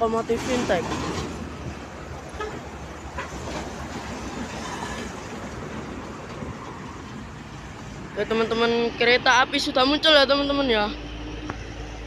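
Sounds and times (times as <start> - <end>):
car crossing railway crossing: 0.0 - 12.0
road traffic noise: 0.0 - 12.0.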